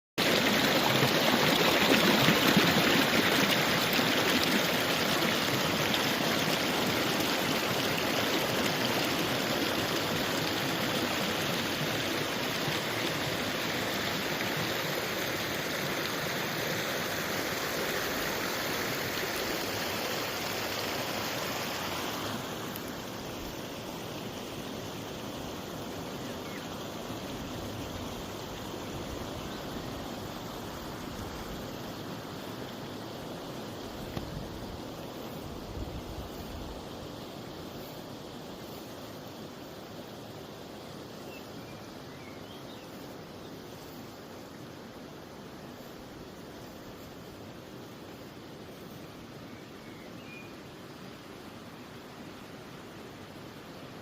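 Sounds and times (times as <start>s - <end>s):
stream water rushing: 0.2s - 54.0s.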